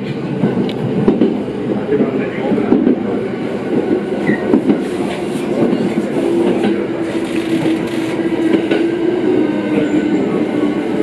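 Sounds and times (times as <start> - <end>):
train wheels clacking: 0.0 - 9.0.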